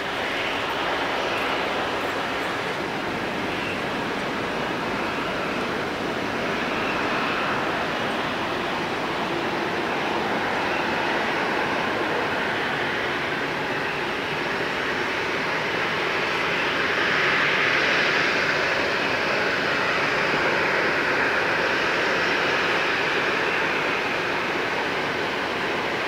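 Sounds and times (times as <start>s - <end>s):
jet engine rushing hiss: 0.0s - 26.0s.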